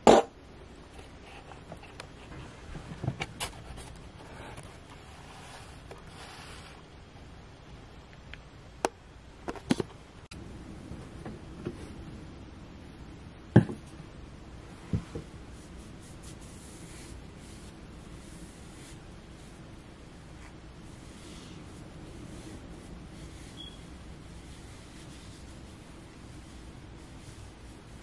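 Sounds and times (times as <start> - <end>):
faint room hum: 0.0 - 28.0.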